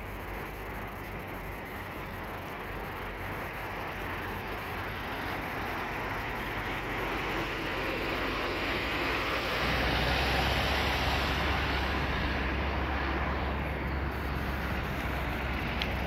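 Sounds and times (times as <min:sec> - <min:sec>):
low rumble of wind buffeting: 0:00.0 - 0:16.0.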